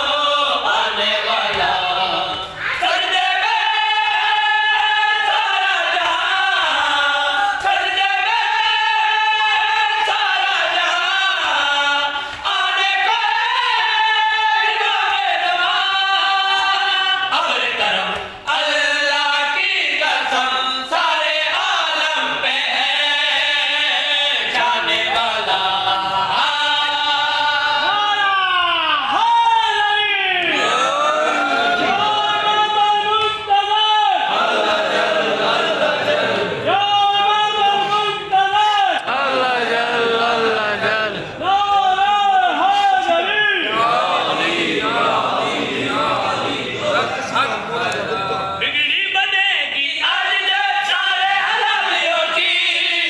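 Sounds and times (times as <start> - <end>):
men singing unaccompanied: 0.0 - 53.0.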